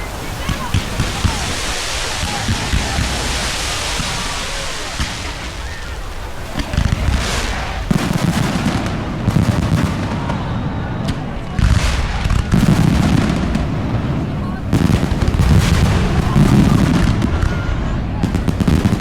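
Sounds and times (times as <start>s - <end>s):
fireworks booming: 0.0s - 19.0s
fireworks crackling and hissing: 0.0s - 19.0s.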